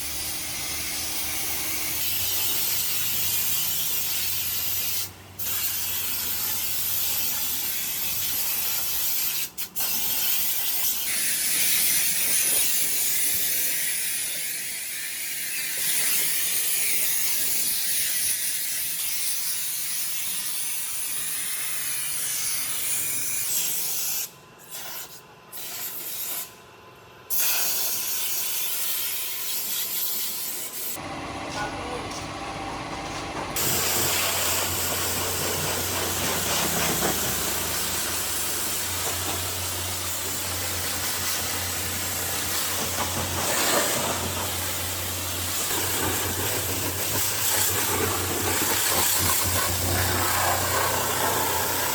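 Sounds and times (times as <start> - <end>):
pressure washer spraying water: 0.0 - 19.4, 27.3 - 32.4, 33.0 - 51.9.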